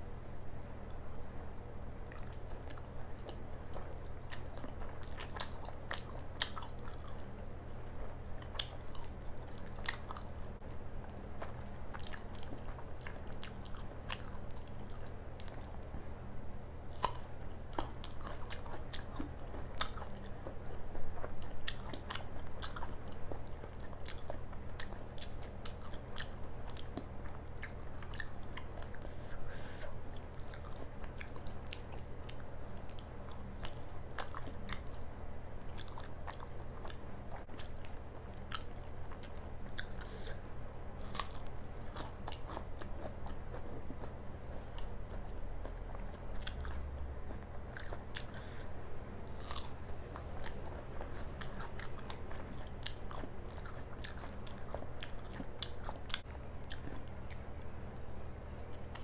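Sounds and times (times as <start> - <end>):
steady low hum: 0.0 - 59.0
person chewing food: 0.3 - 16.2, 16.9 - 59.0.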